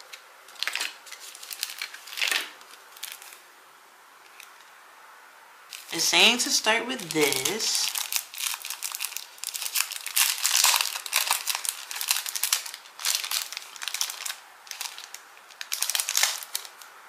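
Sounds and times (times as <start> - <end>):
paper sachets crinkling: 0.0 - 3.4, 5.7 - 16.9.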